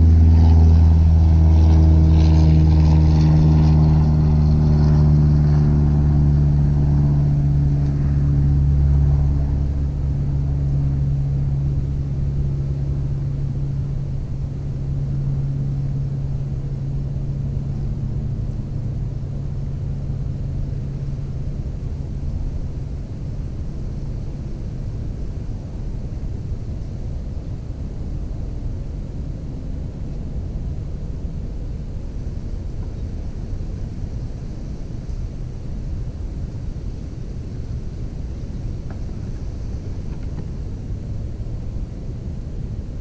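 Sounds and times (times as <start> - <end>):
low engine drone: 0.0 - 43.0.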